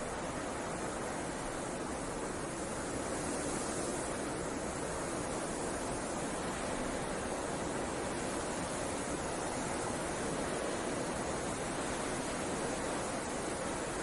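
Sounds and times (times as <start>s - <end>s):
snowstorm wind rushing: 0.0s - 14.0s.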